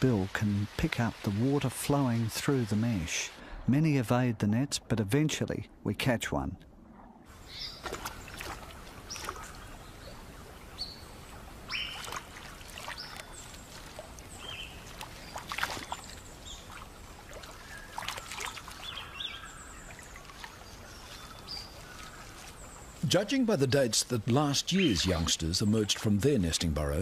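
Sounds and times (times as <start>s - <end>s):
water splashing and dripping: 0.0s - 5.1s, 7.3s - 26.8s.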